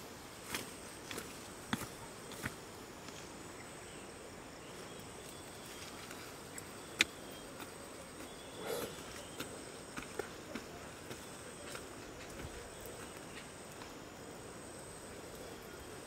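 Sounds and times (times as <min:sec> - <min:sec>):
faint high-pitched insect drone: 0:00.0 - 0:16.0.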